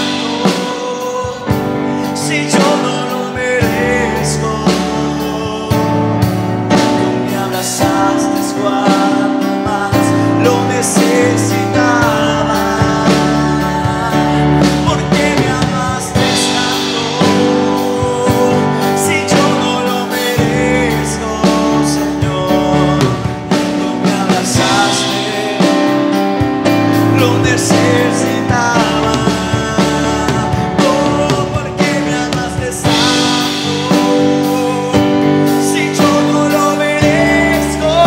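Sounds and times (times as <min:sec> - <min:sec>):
worship band music: 0:00.0 - 0:38.0.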